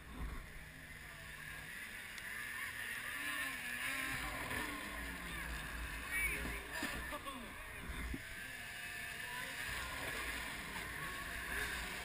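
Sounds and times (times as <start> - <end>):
distant snowmobile engine: 0.0 - 12.0.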